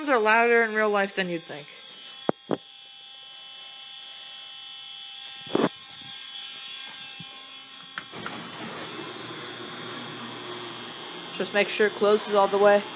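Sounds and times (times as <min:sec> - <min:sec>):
muffled fire alarm horn: 0:00.0 - 0:12.9.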